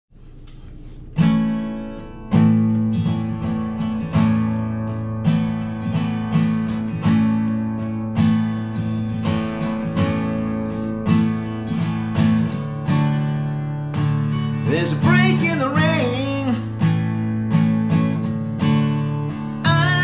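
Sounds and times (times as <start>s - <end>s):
acoustic guitar strumming: 0.2s - 20.0s.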